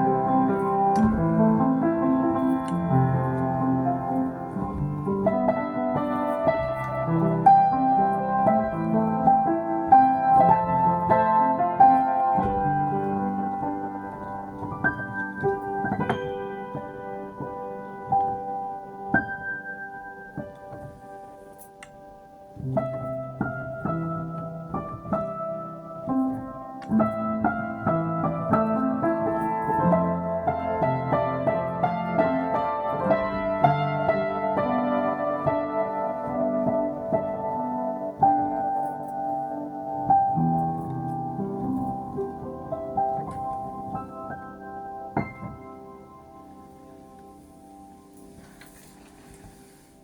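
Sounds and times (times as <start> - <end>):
slow solo piano: 0.0 - 50.0.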